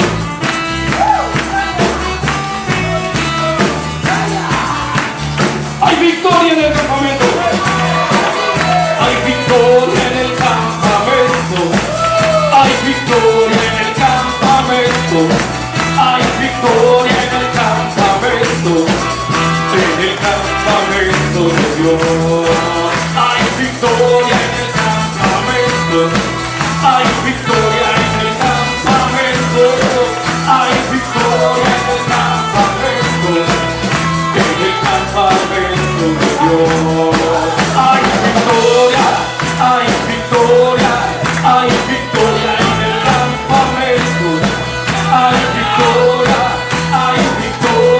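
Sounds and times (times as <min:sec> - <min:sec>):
worship band music: 0:00.0 - 0:47.9.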